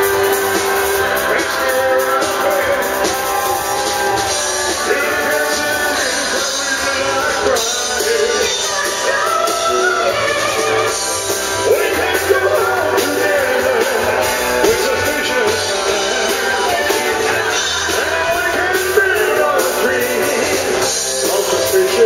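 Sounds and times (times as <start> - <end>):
drums: 0.0 - 22.0
electric guitar: 0.0 - 22.0
man singing into a microphone: 1.1 - 22.0.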